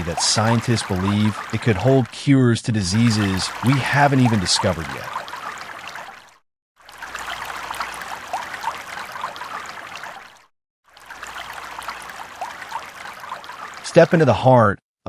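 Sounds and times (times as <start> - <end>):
running water rushing: 0.0 - 2.2, 2.8 - 14.4.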